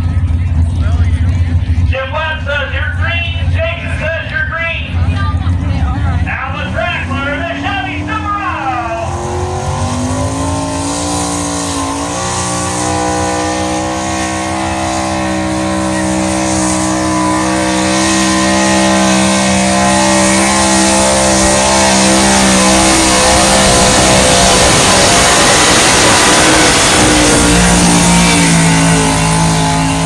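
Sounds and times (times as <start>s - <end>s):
truck engine at high revs: 0.0s - 30.0s.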